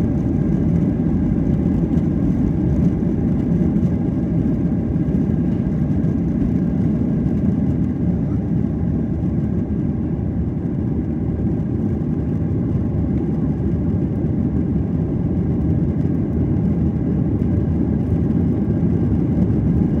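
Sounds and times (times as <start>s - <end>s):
jet engine rumble inside cabin: 0.0s - 20.0s.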